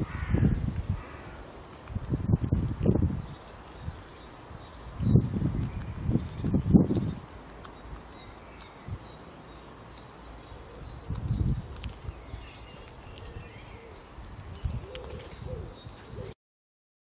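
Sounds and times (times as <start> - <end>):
outdoor background noise: 0.0 - 16.4
small birds chirping: 0.0 - 16.4.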